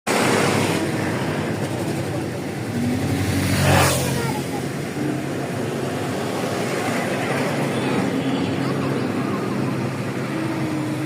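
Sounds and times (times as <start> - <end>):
road traffic: 0.0 - 11.0
vehicle passing close: 0.1 - 11.0.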